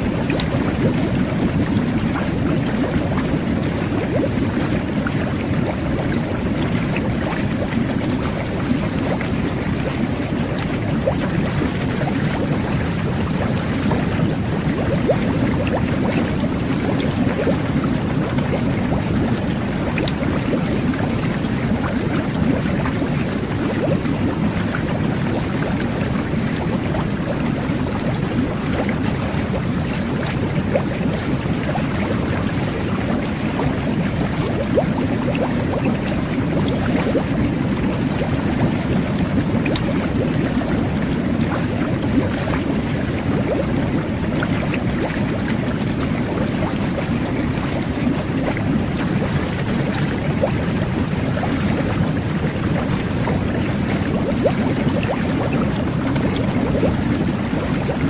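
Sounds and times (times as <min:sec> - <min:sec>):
jet bath water bubbling: 0:00.0 - 0:58.0.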